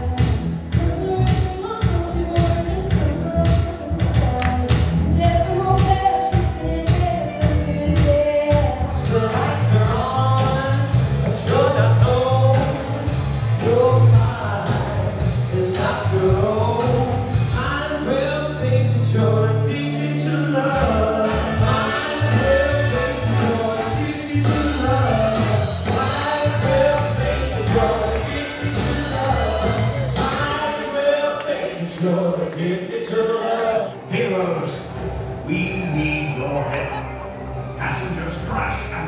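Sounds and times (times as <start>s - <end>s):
performers singing live: 0.0s - 34.9s
backing track with steady beat: 0.0s - 39.0s.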